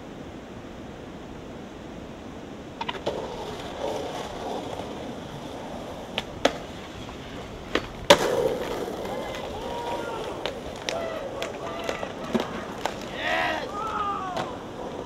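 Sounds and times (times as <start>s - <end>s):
steady hiss: 0.0s - 15.0s
skateboard wheels rolling: 2.2s - 15.0s
skateboard clacking on concrete: 2.8s - 15.0s.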